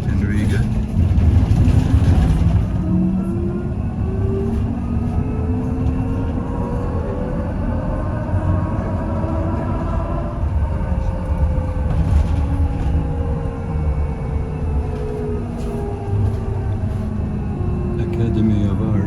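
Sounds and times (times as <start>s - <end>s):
low rumble of bus ride: 0.0s - 19.0s.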